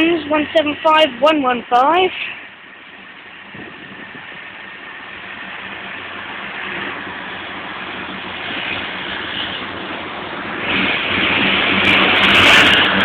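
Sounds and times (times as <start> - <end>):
diesel engines humming: 0.0 - 13.0
train noise: 0.0 - 13.0.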